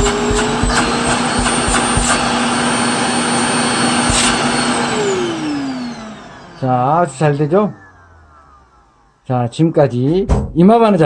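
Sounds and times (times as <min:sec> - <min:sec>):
vacuum cleaner motor whining: 0:00.0 - 0:10.0.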